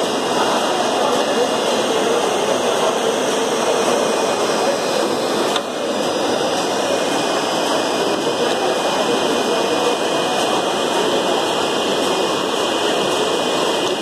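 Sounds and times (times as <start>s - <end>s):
conveyor belt whirring: 0.0s - 14.0s.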